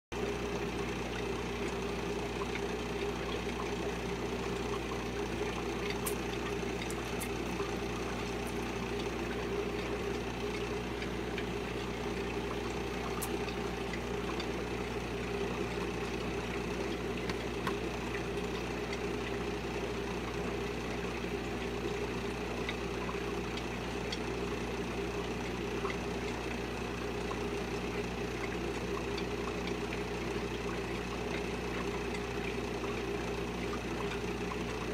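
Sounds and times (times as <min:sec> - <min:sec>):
aquarium equipment hum: 0:00.2 - 0:34.9
faint high ticks: 0:00.2 - 0:34.9.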